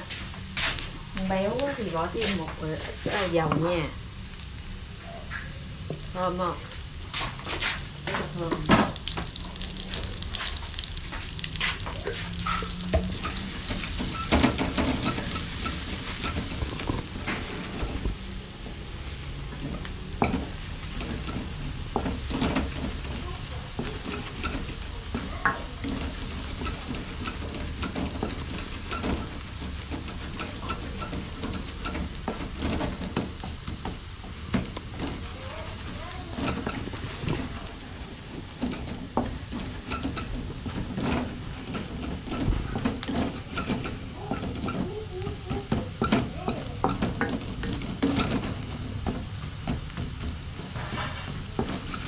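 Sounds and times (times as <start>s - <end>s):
wooden spatula scraping wok: 0.0s - 3.9s, 6.0s - 52.0s
garlic sizzling in oil: 0.0s - 52.0s.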